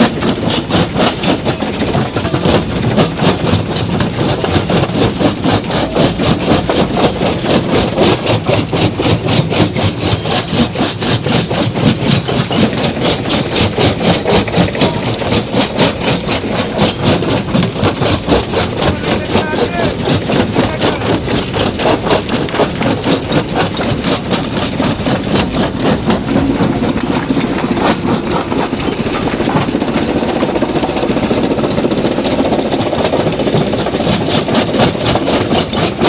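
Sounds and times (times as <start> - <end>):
fast pulse of knocks: 0.0 - 36.0
stone crushing machine running: 0.0 - 36.0.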